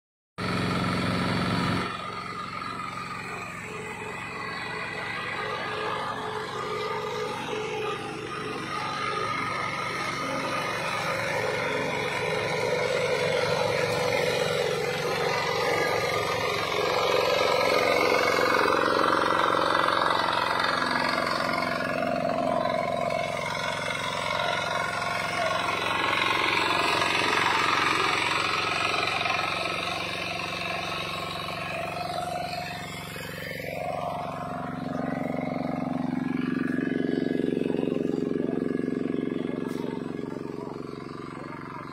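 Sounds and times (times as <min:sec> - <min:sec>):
mower cutting grass: 0:00.4 - 0:41.9
tractor engine running: 0:00.4 - 0:41.9.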